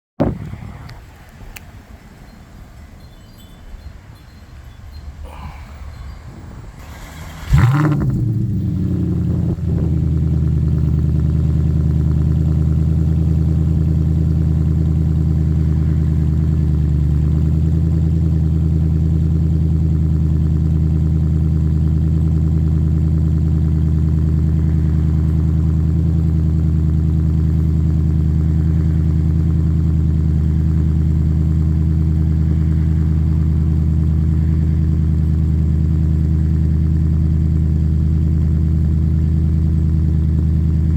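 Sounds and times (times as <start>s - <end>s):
car engine idling: 0.3s - 40.9s.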